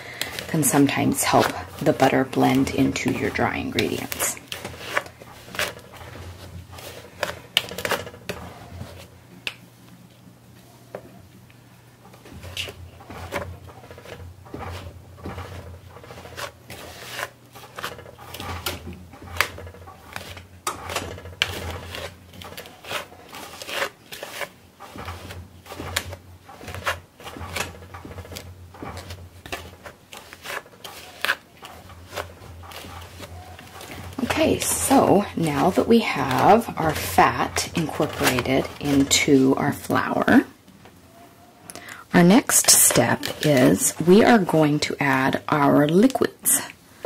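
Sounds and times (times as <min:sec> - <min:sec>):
pastry blender scraping in bowl: 0:00.0 - 0:09.1, 0:12.1 - 0:40.5, 0:41.8 - 0:46.8.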